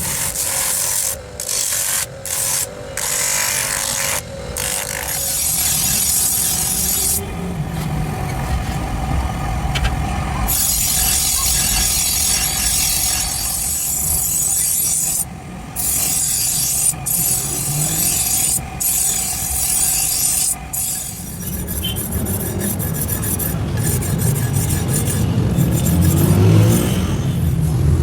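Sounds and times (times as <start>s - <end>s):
knife sharpening rasp: 0.0s - 7.2s, 10.5s - 28.0s.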